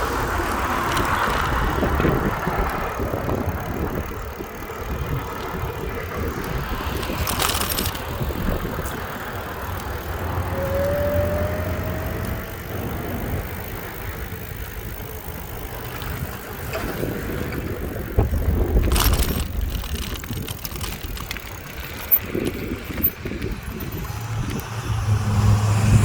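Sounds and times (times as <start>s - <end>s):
bicycle tyre and road noise: 0.0s - 26.0s
wind rumbling on microphone: 0.0s - 26.0s.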